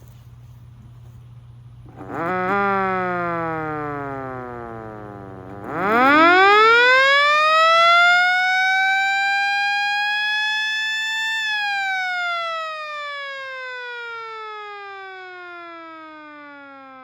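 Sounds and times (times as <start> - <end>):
warning siren wailing: 1.9 - 17.0.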